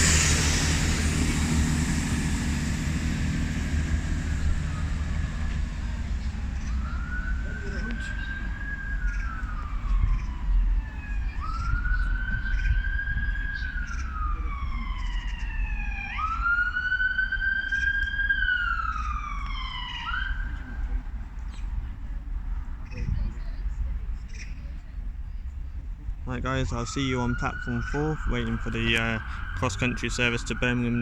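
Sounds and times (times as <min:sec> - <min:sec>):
steady low rumble: 0:00.0 - 0:16.6, 0:18.6 - 0:31.0
emergency siren wailing: 0:00.0 - 0:21.3, 0:26.3 - 0:31.0.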